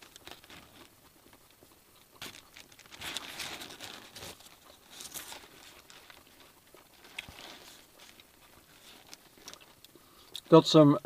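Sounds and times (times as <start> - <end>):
paper wrapper crinkling: 0.0 - 1.0, 2.1 - 10.6.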